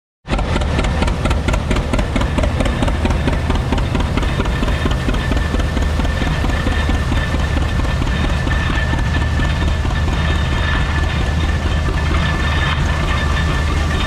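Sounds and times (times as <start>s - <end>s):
tractor engine running under load: 0.2s - 14.0s
thin high whine: 2.0s - 14.0s.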